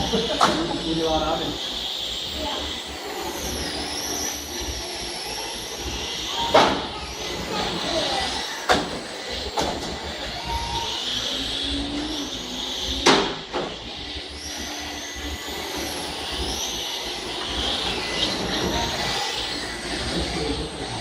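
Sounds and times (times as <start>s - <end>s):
model truck motors whining: 0.0s - 21.0s.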